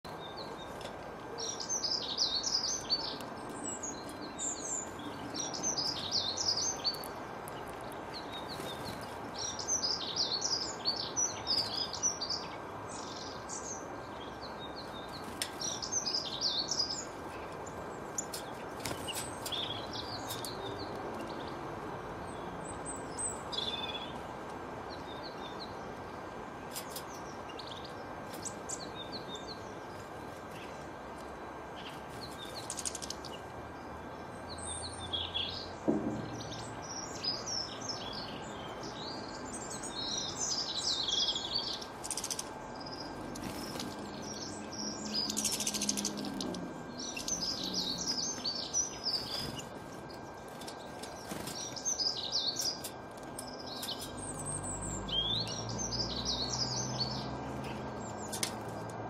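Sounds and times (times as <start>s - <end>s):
songbird chirping: 0.0s - 59.0s
steady background hiss: 0.1s - 59.0s.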